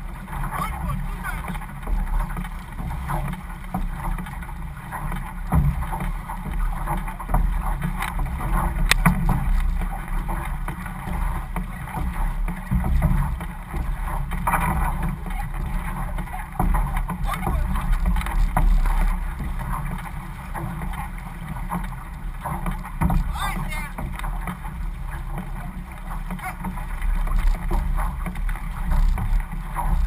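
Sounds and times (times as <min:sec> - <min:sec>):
paddles splashing: 0:00.0 - 0:30.0
water rushing along hull: 0:00.0 - 0:30.0
wind rumble on microphone: 0:00.0 - 0:30.0.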